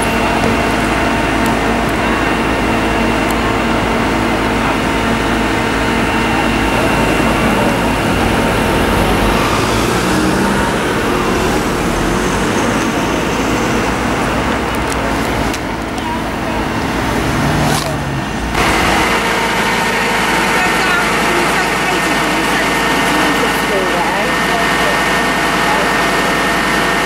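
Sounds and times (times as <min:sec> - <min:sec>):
diesel engine humming and whining: 0:00.0 - 0:27.0.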